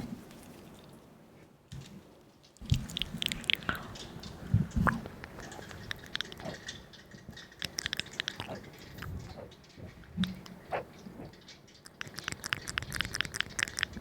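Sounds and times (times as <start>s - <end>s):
small clicks and crackles: 1.7s - 14.0s.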